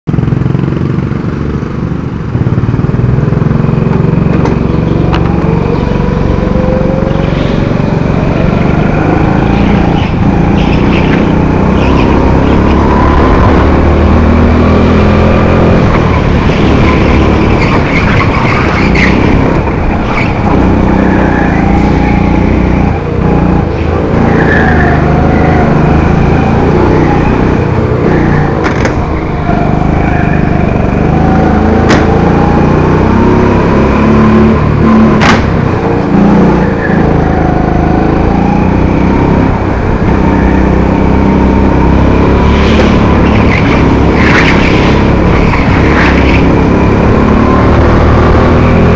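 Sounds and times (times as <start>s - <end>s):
kart engine revving: 0.1s - 48.9s.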